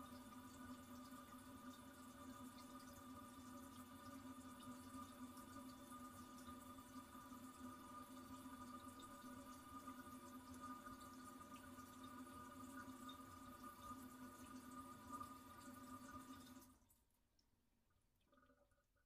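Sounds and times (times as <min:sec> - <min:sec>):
water hissing through fill valve: 0:00.0 - 0:16.7.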